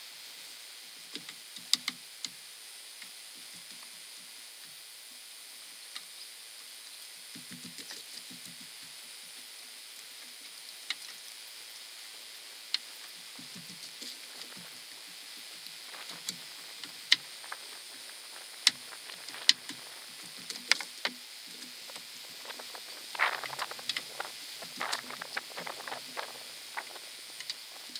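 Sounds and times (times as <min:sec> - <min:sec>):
faint hiss: 0:00.0 - 0:27.9.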